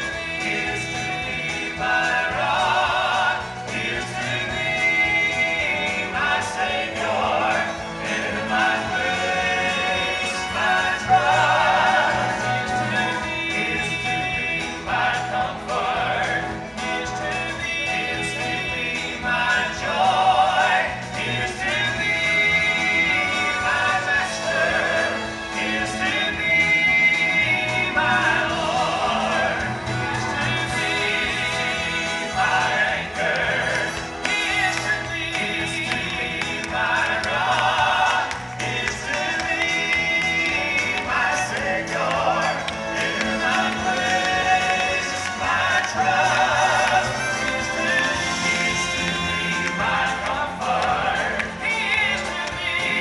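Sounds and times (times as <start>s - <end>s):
male vocal quartet singing: 0.0s - 53.0s.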